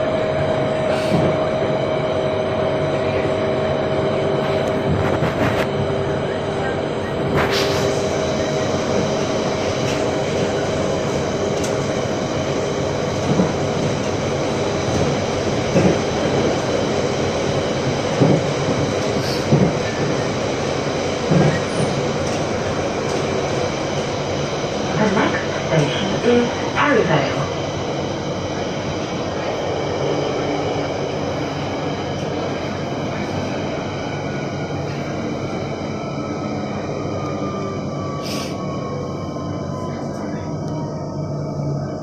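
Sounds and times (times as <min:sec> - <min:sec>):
train rumble and whine: 0:00.0 - 0:42.0.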